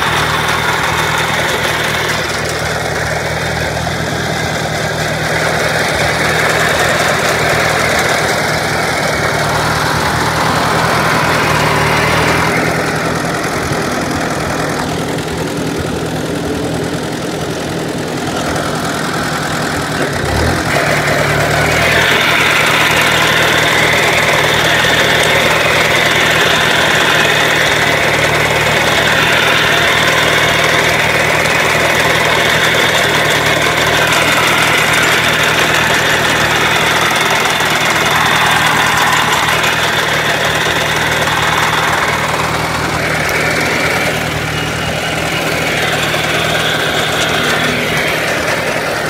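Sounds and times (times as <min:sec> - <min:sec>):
sickle bar mower cutting oats: 0:00.0 - 0:49.0
tractor engine running under load: 0:00.0 - 0:49.0.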